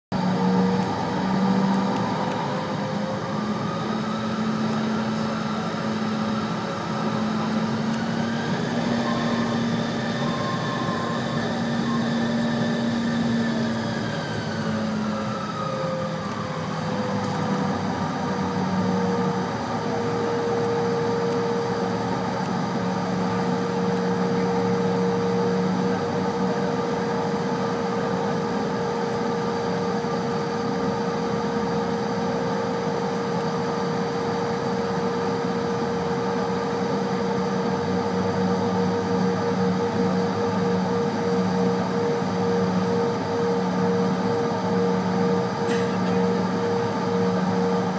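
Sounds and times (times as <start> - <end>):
jet engines whining: 0.1 - 47.9.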